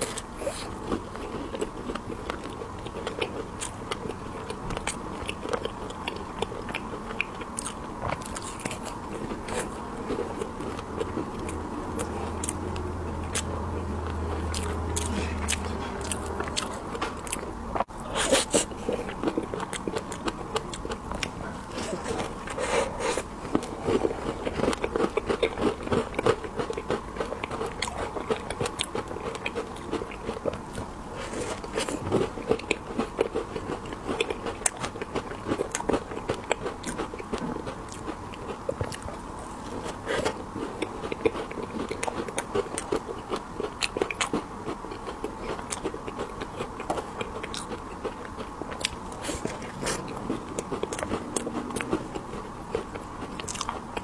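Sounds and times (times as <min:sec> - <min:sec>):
chewing fruit: 0:00.0 - 0:54.0.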